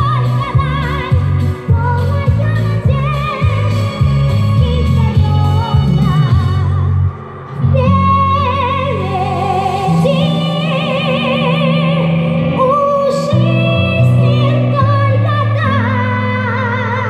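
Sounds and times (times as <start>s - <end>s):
boy singing into a microphone: 0.0s - 17.0s
instrumental accompaniment: 0.0s - 17.0s.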